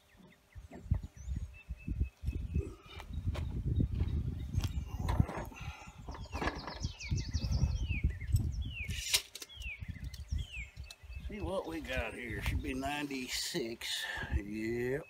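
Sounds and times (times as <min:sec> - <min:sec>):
wind buffeting microphone: 0:00.2 - 0:13.4, 0:14.0 - 0:15.0.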